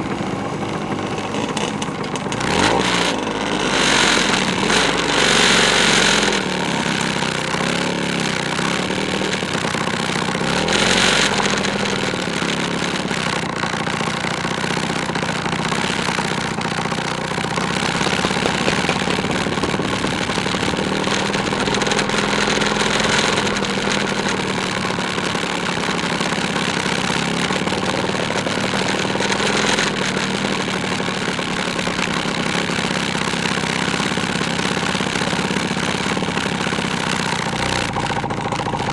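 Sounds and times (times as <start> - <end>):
two-stroke scooter engine: 0.0 - 38.9.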